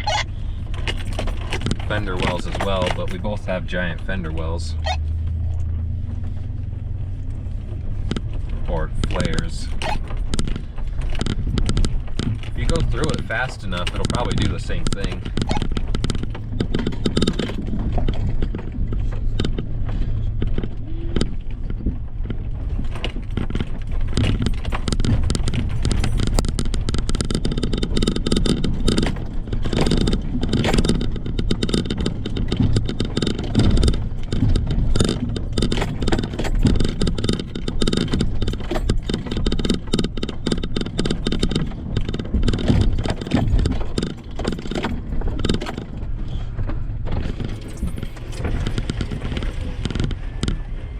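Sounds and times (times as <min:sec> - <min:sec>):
knocks rattles and scrapes: 0:00.0 - 0:50.9
truck engine drone: 0:00.0 - 0:50.9.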